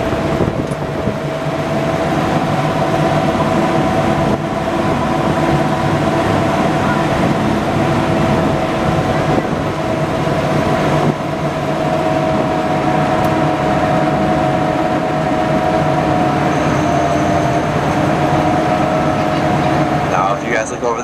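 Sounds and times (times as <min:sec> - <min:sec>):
truck engine droning: 0:00.0 - 0:21.0
water rushing along hull: 0:00.0 - 0:21.0.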